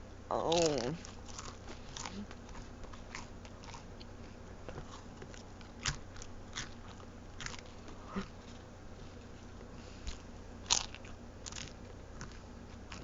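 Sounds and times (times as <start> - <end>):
chips being chewed: 0.4 - 13.0.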